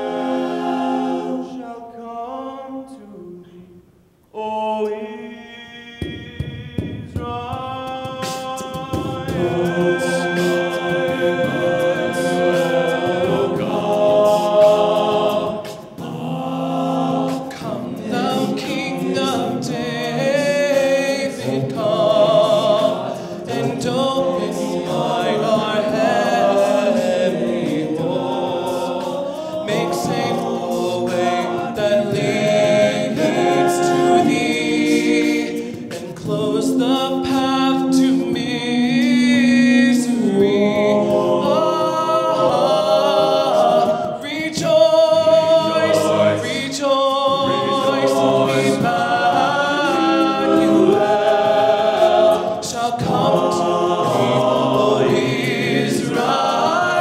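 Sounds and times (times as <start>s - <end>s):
men singing a cappella harmony: 0.0s - 3.7s, 4.3s - 57.0s.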